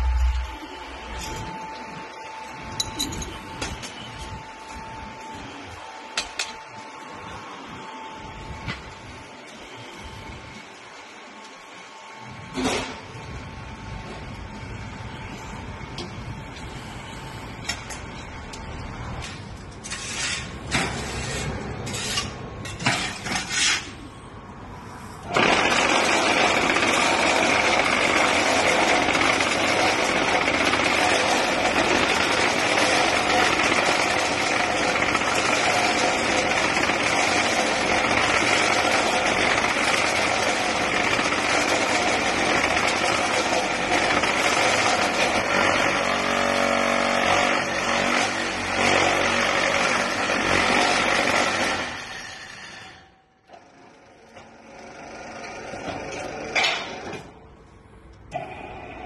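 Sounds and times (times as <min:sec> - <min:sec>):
machine running with high whine: 0:00.0 - 0:56.6.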